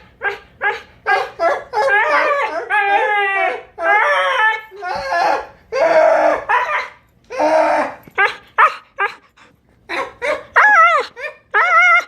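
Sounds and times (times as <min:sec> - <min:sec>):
dog whining and yowling: 0:00.1 - 0:12.0.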